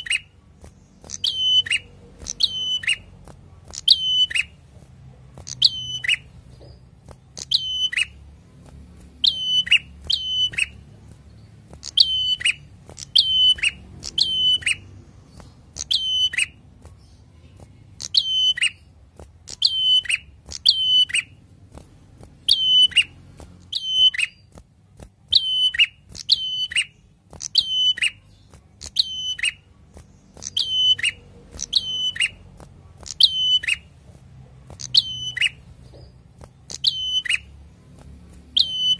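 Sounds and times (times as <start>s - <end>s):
bird singing high calls: 0.0s - 4.6s, 5.4s - 8.3s, 9.1s - 21.4s, 22.4s - 24.6s, 25.3s - 33.9s, 34.7s - 38.9s.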